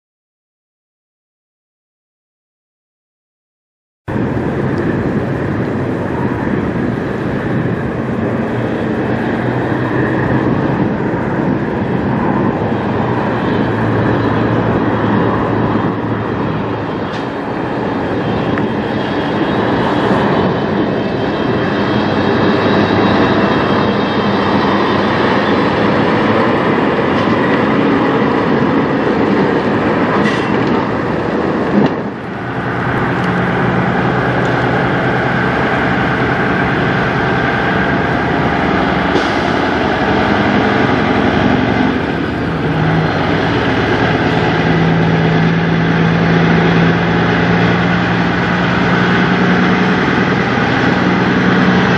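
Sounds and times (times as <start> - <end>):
diesel truck engines rumbling: 4.1 - 51.9.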